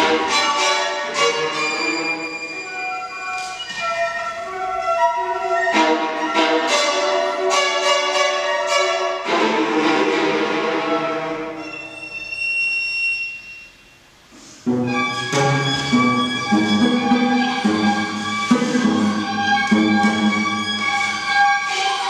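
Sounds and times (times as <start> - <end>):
cello playing: 0.0 - 12.4, 14.6 - 22.0
viola playing: 0.0 - 12.6, 14.6 - 22.0.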